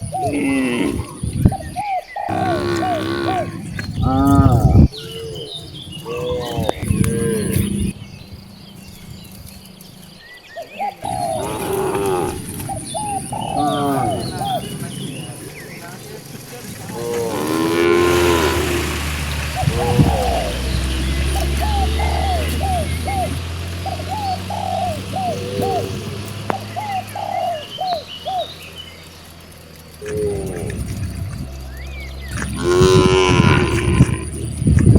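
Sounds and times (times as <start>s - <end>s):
cows mooing: 0.0s - 1.5s, 2.3s - 7.9s, 10.9s - 28.0s, 29.8s - 31.6s, 32.2s - 34.9s
dove cooing: 0.0s - 8.0s, 10.6s - 34.9s
small birds chirping: 0.0s - 34.9s.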